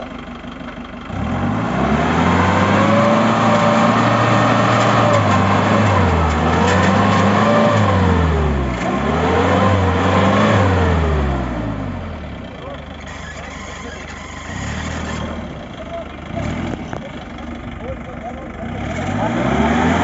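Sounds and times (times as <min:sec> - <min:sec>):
engine revving hard: 0:01.1 - 0:12.2, 0:13.1 - 0:17.2, 0:18.6 - 0:20.0.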